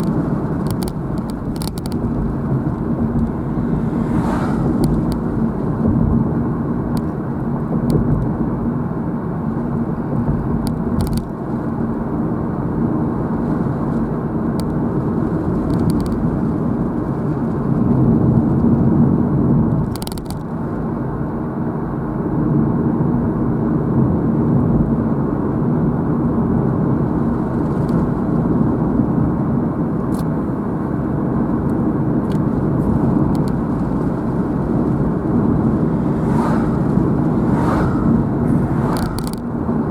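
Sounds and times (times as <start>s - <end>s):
car engine hum: 0.0s - 39.9s.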